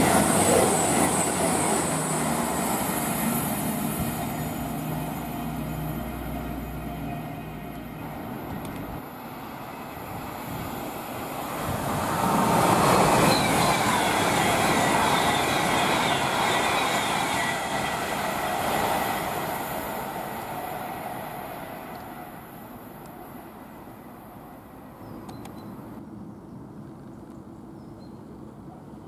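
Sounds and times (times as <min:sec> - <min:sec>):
electric train passing at speed: 0:00.0 - 0:26.2.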